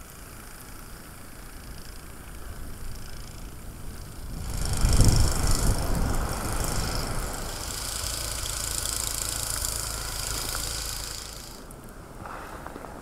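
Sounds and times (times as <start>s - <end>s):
engine running: 0.0s - 12.9s
hiss: 0.0s - 13.0s.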